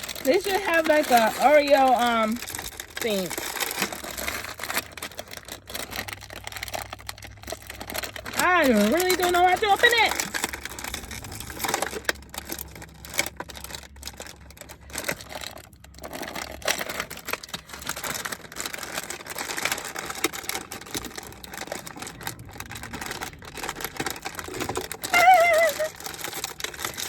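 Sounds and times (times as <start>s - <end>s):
packaging crinkling: 0.0s - 27.0s.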